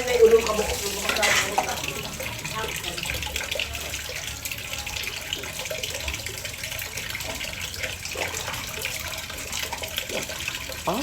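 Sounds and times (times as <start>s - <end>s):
tap water running and splashing: 0.0s - 11.0s.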